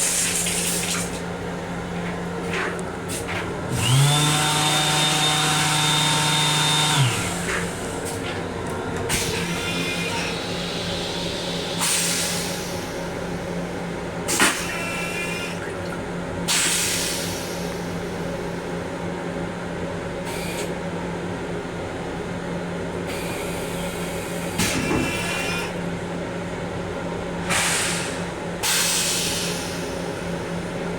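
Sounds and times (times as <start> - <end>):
rail car low hum: 0.0 - 30.9.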